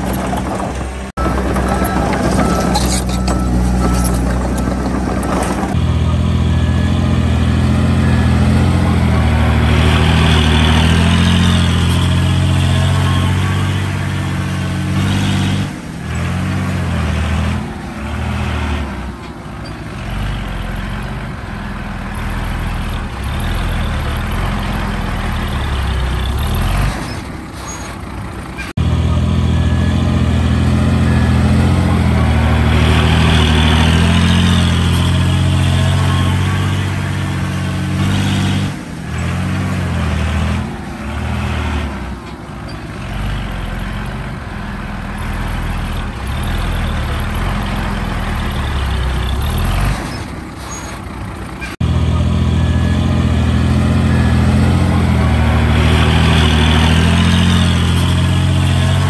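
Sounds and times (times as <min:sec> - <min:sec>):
heavy diesel engines droning: 0:00.0 - 0:59.0.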